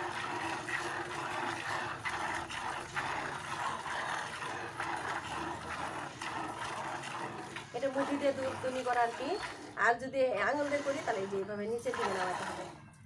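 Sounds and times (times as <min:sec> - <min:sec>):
milk squirting into pail: 0:00.0 - 0:09.8, 0:10.4 - 0:12.9.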